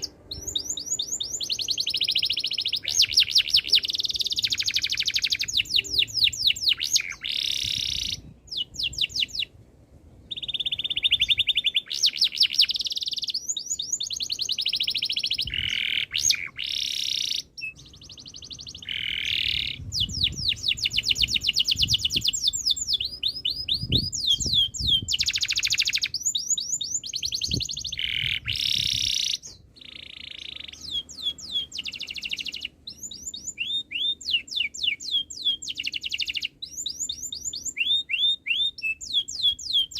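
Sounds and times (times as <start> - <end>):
canary singing trills: 0.0 - 9.6, 10.3 - 39.9.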